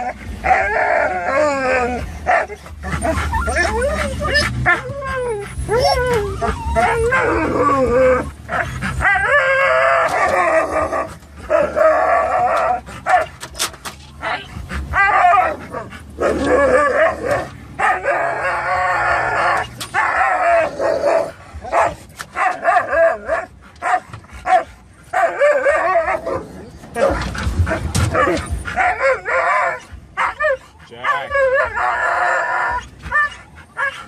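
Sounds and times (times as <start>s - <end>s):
car engine rumbling: 0.0s - 34.0s
dogs howling and whining: 0.0s - 34.0s
dogs yipping: 0.0s - 34.0s.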